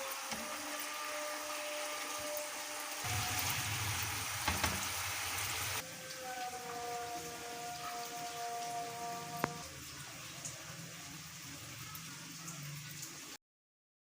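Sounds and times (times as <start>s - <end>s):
food sizzling in hot oil: 0.0s - 13.4s.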